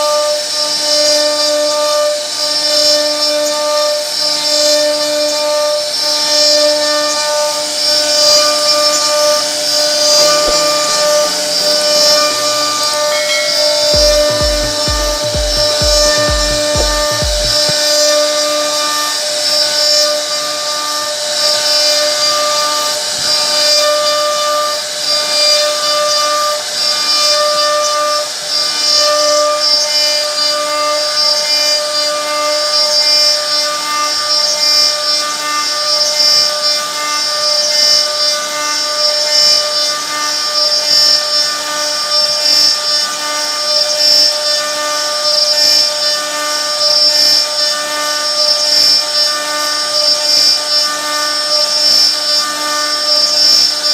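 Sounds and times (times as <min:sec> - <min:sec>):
bit cutting into wood: 0:00.0 - 0:53.9
router spindle whining: 0:00.0 - 0:53.9.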